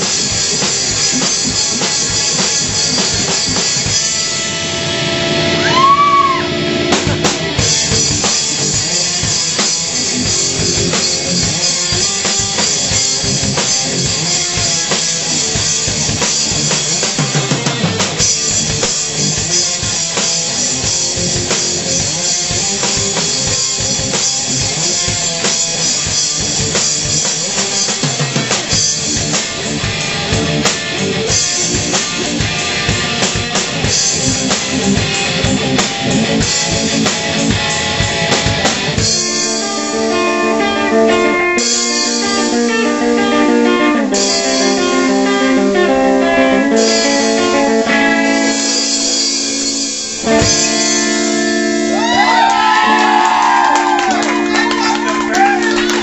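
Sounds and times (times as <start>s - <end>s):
distorted electric guitar chords: 0.0s - 56.0s
rock drum kit beat: 0.0s - 56.0s.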